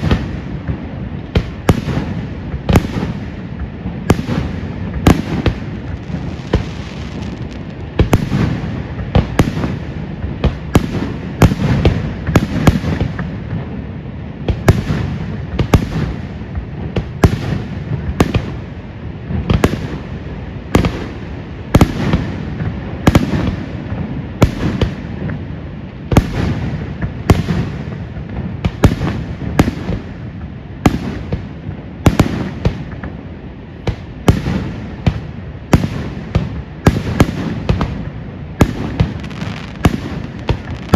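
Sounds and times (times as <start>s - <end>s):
low rumble and crackle: 0.0s - 40.9s.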